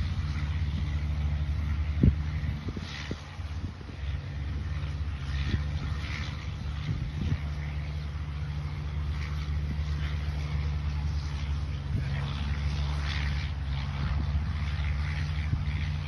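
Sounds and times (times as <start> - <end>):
boat engine humming: 0.0 - 16.0
water and wind hiss: 0.0 - 16.0.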